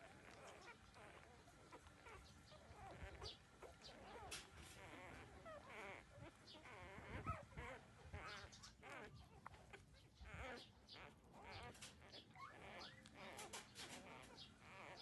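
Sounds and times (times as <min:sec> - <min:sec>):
puppies whimpering and squeaking: 0:00.0 - 0:15.0.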